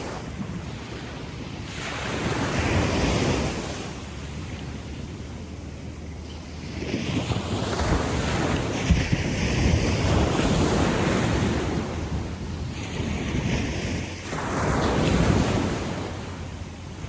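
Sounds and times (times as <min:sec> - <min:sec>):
waves washing up a beach: 0:00.0 - 0:17.0
wind rumble on microphone: 0:00.0 - 0:17.0.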